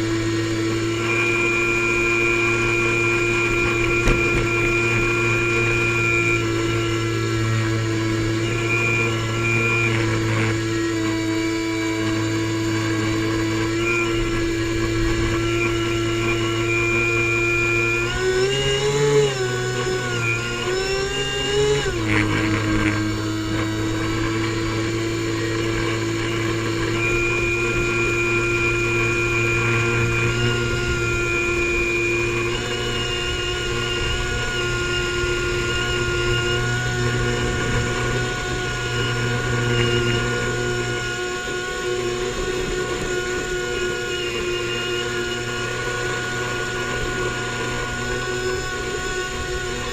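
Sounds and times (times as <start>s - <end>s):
airboat engine and propeller: 0.0s - 49.9s.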